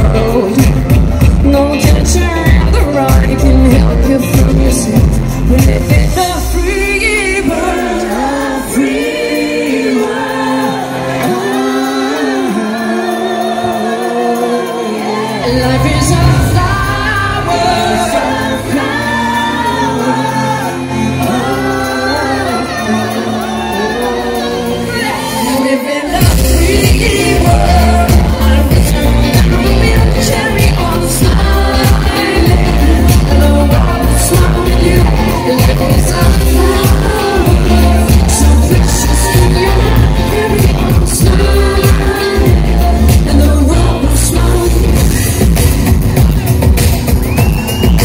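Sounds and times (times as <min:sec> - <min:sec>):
woman singing: 0:00.0 - 0:45.4
band playing: 0:00.0 - 0:48.0
live pop song over pa: 0:00.0 - 0:48.0.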